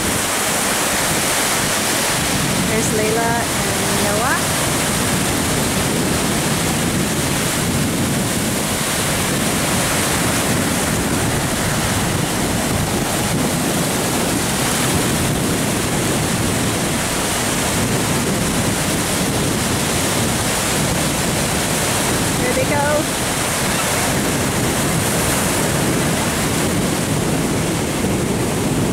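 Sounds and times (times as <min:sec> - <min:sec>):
small waves breaking: 0:00.0 - 0:28.9.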